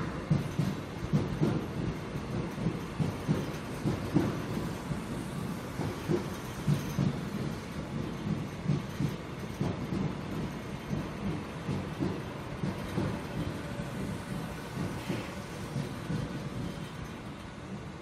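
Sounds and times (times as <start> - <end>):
train rumbling: 0.0 - 18.0
wheels thumping over rail joints: 0.2 - 17.8.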